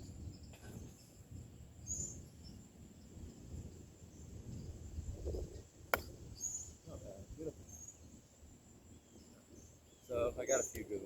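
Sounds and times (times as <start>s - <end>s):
bird chirp: 0.1s - 4.8s, 6.0s - 7.0s, 7.6s - 11.0s.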